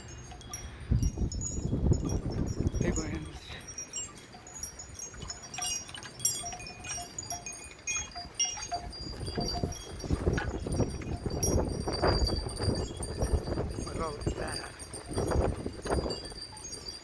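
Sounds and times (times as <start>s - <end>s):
metal wind chimes ringing: 0.0s - 17.0s
wind gusts rumbling on microphone: 0.0s - 17.0s.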